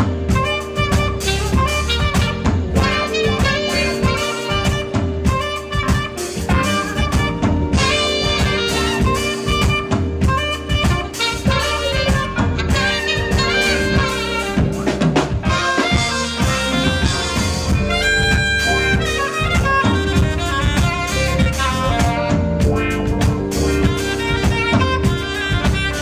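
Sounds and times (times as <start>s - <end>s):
bass: 0.0s - 26.0s
jazz saxophone melody: 0.0s - 26.0s
steady drum beat: 0.0s - 26.0s.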